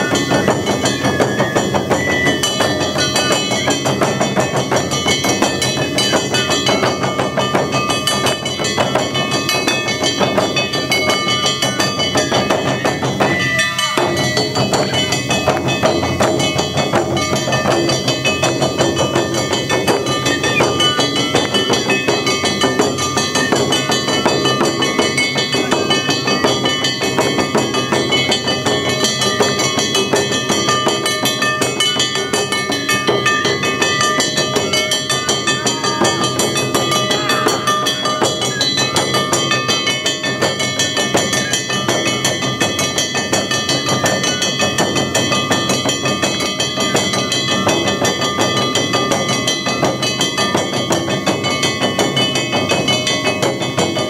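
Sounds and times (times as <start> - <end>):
hand-held metal gong clanging: 0.0 - 54.0
taiko drums beating: 0.0 - 54.0.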